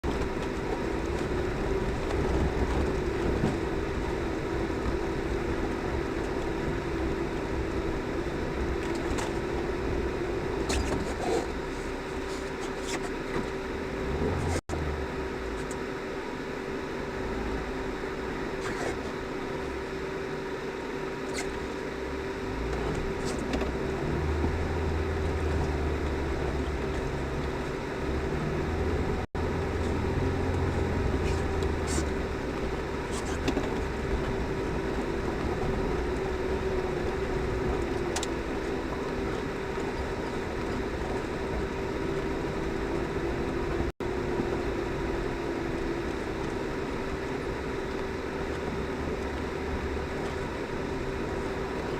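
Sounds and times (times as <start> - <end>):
car engine whining: 0.0 - 51.9
continuous rumble: 0.0 - 51.9.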